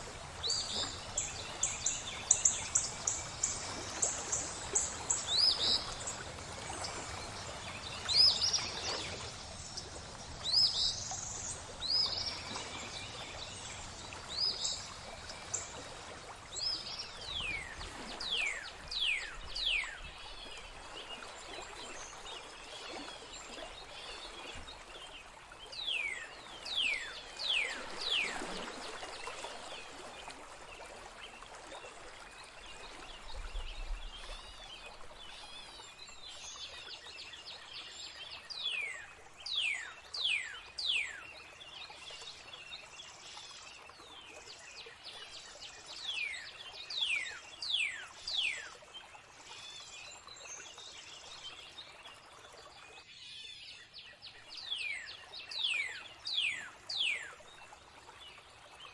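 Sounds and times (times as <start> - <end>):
water trickling: 0.0 - 53.1.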